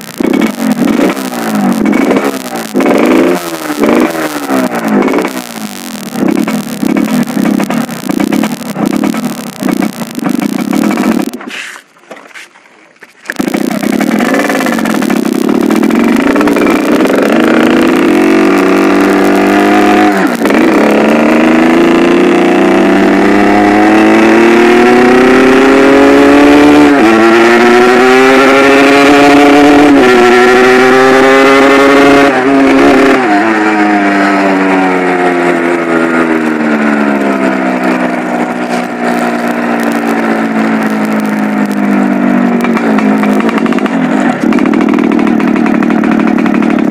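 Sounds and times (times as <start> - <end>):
motorcycle engine revving through gears: 0.0 - 11.5, 13.3 - 46.9.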